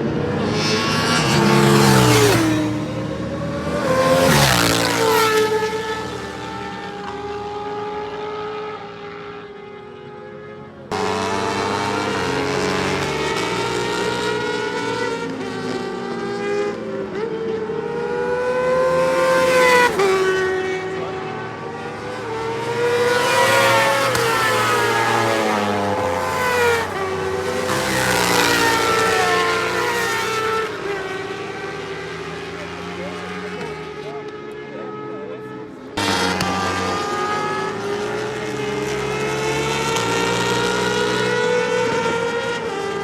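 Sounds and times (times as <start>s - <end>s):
motorcycle engine revving: 0.0s - 9.7s, 10.9s - 43.0s.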